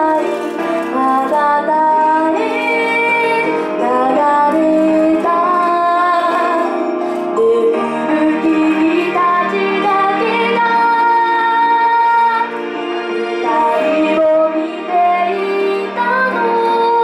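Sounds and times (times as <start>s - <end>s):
girl singing pop ballad: 0.0s - 12.7s, 13.4s - 17.0s.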